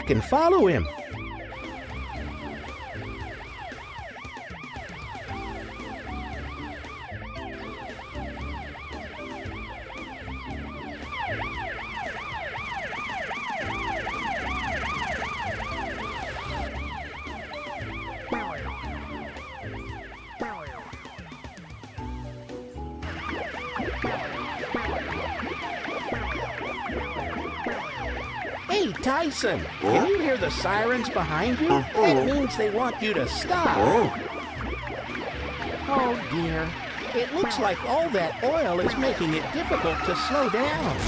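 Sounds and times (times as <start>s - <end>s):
cartoon sirens wailing: 0.0s - 22.2s, 23.0s - 41.0s
background music: 0.0s - 41.0s.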